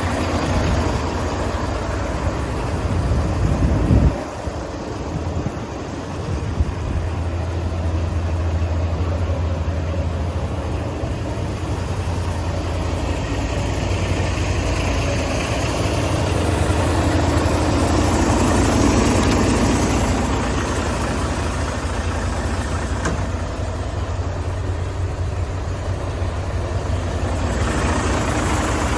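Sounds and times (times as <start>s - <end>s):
truck diesel engine idling: 0.0s - 28.9s.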